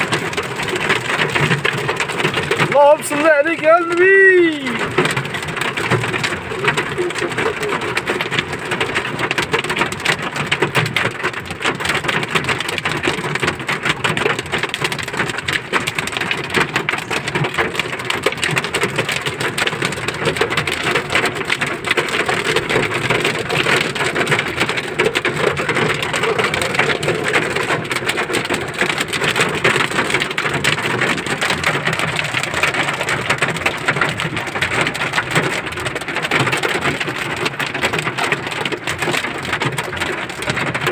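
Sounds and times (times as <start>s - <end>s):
heavy rain on hard surface: 0.0s - 40.9s.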